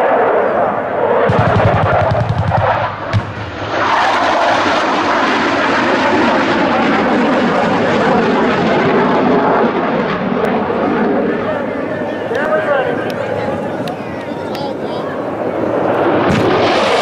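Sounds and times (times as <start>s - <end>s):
fighter jet flying past: 0.0s - 17.0s.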